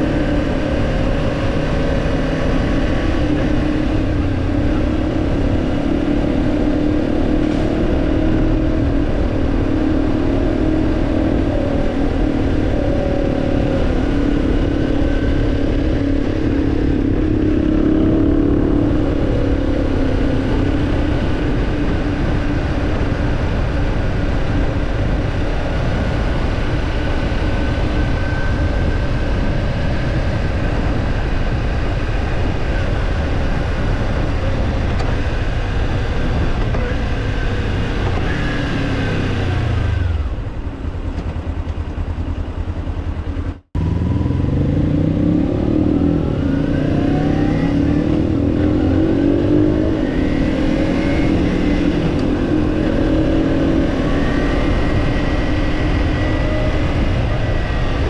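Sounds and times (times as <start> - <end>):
wind rush: 0.0 - 41.1, 43.2 - 58.0
motorcycle engine revving: 0.0 - 58.0.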